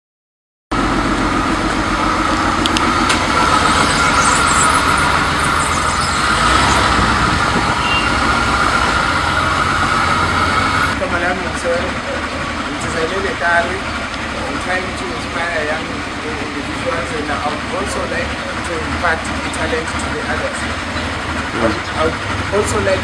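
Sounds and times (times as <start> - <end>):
car engine running: 0.8 - 23.0.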